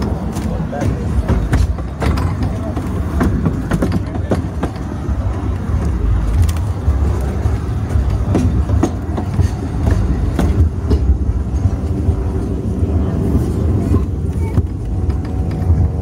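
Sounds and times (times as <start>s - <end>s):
railway coach rumbling on track: 0.0s - 16.0s
wheels clicking over rail joints: 0.0s - 16.0s.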